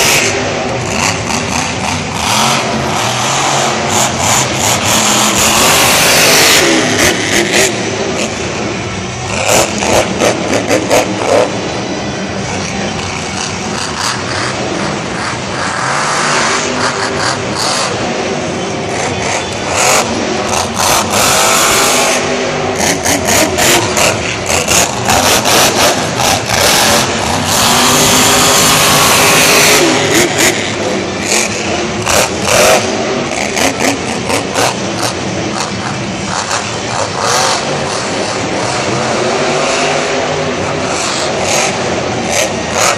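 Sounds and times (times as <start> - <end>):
truck engine revving hard: 0.0 - 42.9.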